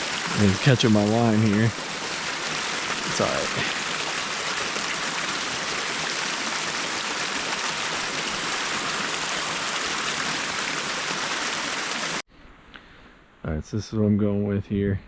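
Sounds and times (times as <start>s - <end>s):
creek water rushing over rapids: 0.0s - 12.2s.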